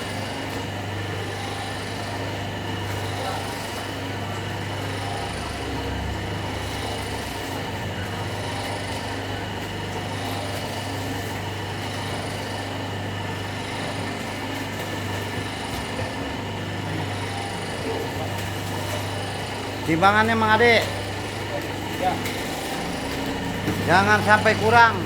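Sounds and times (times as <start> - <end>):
packing machine motor hum: 0.0 - 25.0.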